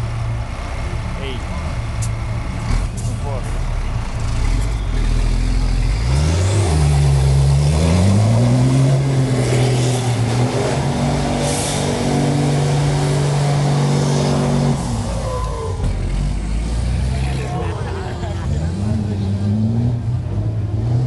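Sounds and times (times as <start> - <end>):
truck diesel engine revving: 0.0 - 21.0.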